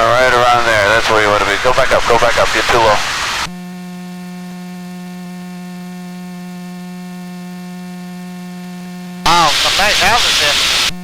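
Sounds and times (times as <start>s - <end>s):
low electrical buzz: 0.0s - 11.0s.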